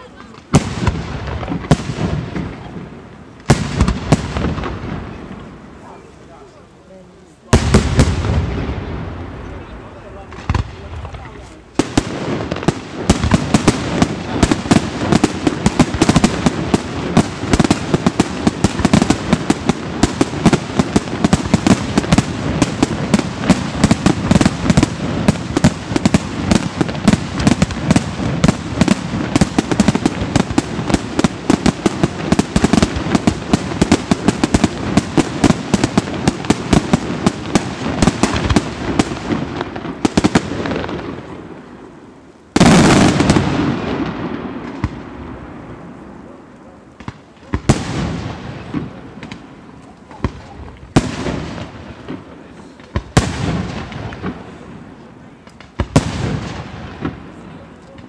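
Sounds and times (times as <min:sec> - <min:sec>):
fireworks bursts and bangs: 0:00.0 - 0:58.0.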